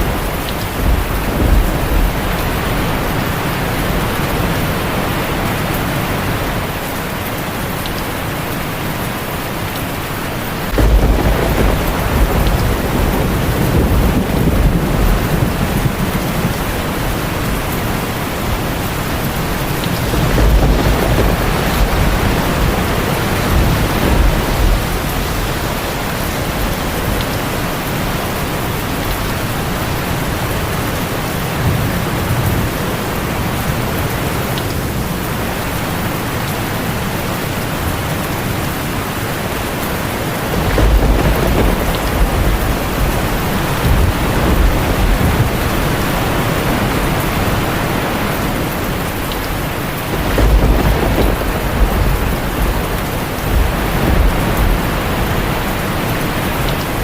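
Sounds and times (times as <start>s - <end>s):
rolling thunder: 0.0s - 6.9s, 10.3s - 36.3s, 37.5s - 57.0s
heavy rain on a tin roof: 0.0s - 57.0s.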